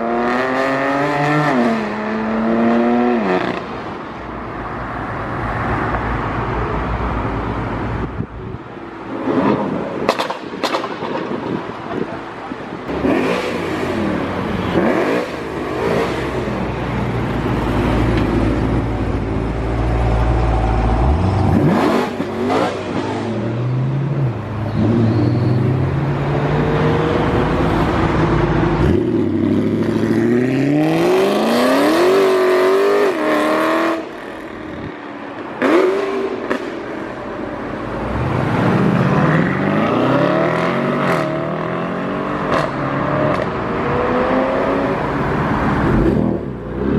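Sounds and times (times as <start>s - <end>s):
sports car engines revving: 0.0s - 4.1s, 5.8s - 46.9s.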